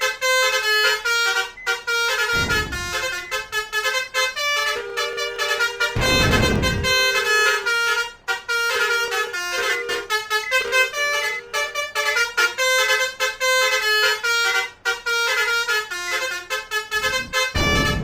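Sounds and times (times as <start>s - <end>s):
musical air horn tune: 0.0s - 18.0s.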